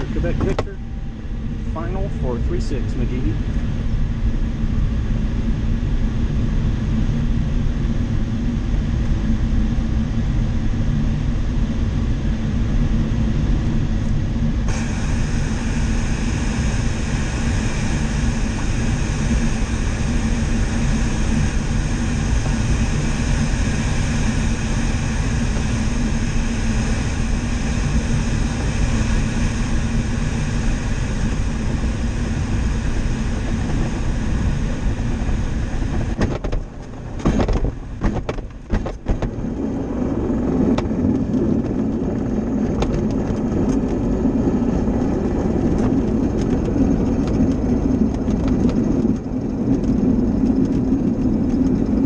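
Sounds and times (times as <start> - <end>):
air rushing around cockpit: 0.0 - 52.0.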